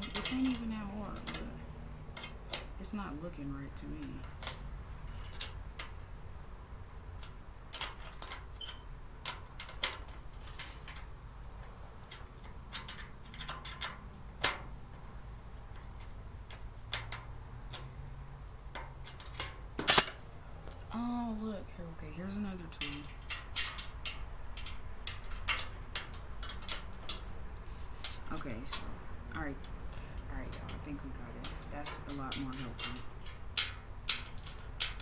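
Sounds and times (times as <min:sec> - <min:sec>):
metal screws clicking and tapping: 0:00.0 - 0:02.8, 0:04.0 - 0:06.1, 0:06.8 - 0:18.0, 0:18.7 - 0:20.9, 0:22.8 - 0:28.8, 0:29.6 - 0:35.0.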